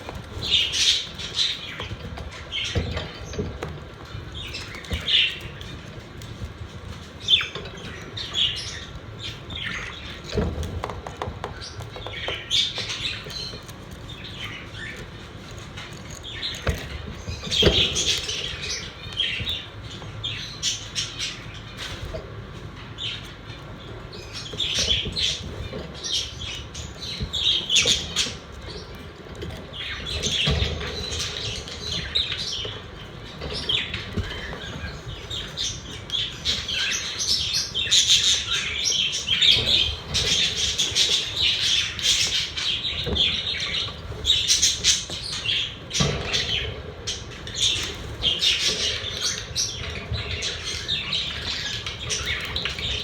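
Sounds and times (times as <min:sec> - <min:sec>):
budgerigars chirping and chattering: 0:00.0 - 0:53.0.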